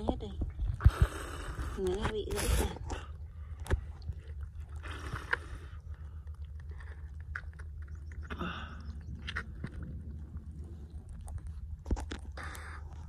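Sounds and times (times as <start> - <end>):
crabs clicking and scraping: 0.0 - 13.0
low rumble: 0.0 - 13.0.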